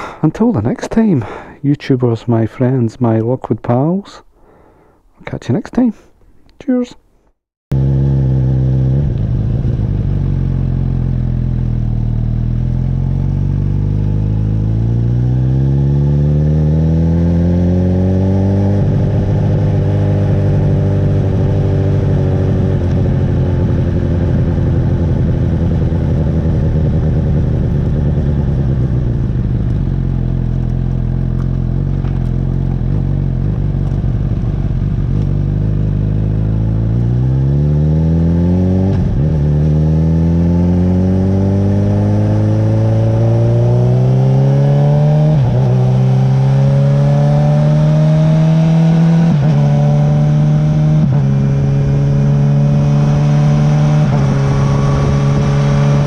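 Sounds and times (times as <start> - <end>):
motorcycle engine accelerating: 7.7 - 56.0.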